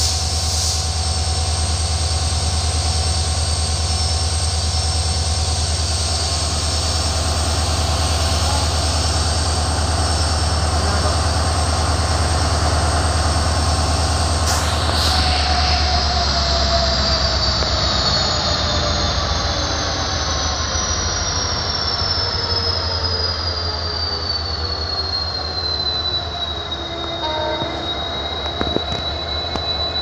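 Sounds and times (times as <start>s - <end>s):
low train rumble: 0.0s - 30.0s
train wheels squealing on rails: 0.0s - 30.0s.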